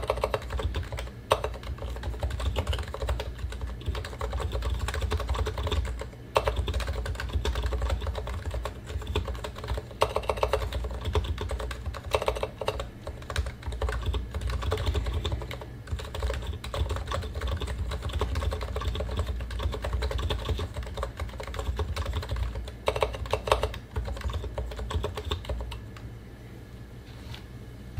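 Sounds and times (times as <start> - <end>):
keyboard typing: 0.0 - 26.0.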